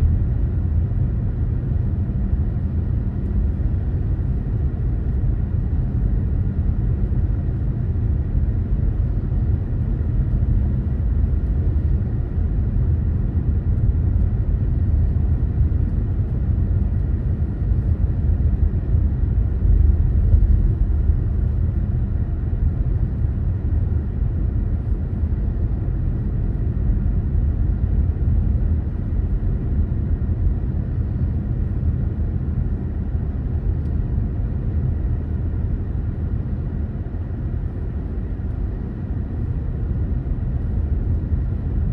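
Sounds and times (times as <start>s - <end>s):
car road and engine rumble: 0.0s - 41.9s.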